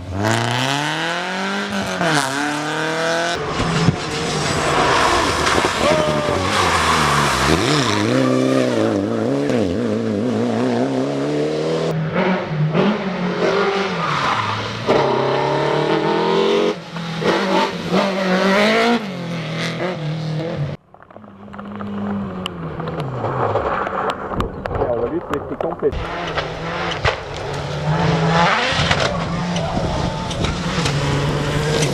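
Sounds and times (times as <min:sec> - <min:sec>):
rally car engines at full throttle: 0:00.0 - 0:31.9.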